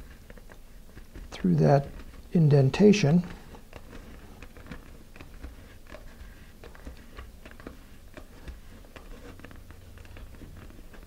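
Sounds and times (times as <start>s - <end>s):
knife blade scratching plastic: 0.0s - 11.0s.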